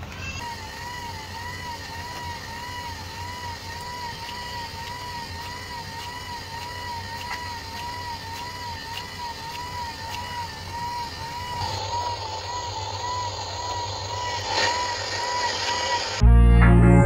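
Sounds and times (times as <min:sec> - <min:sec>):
low hum: 0:00.0 - 0:17.0
motor whine: 0:00.0 - 0:17.0.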